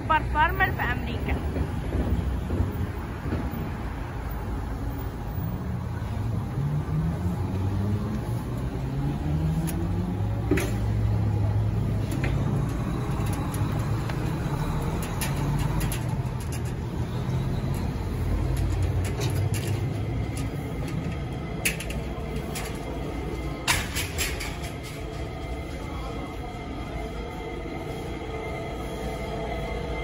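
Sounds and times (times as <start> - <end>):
vehicle motor rumble: 1.3 - 30.0.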